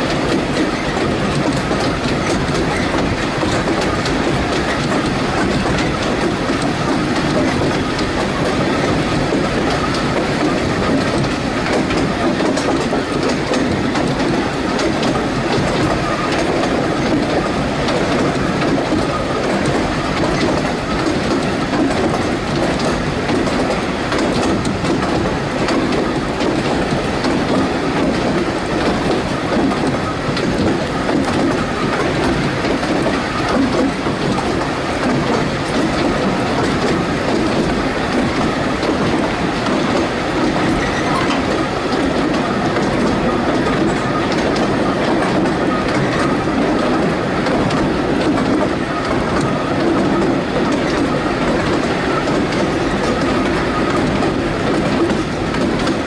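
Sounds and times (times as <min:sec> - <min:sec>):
rail joint clicks: 0:00.0 - 0:56.0
wheel-on-rail rumble: 0:00.0 - 0:56.0.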